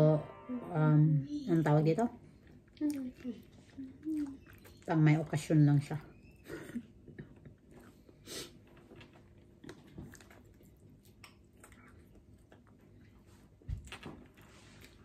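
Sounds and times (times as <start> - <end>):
chewing soft doughnuts: 2.3 - 15.0.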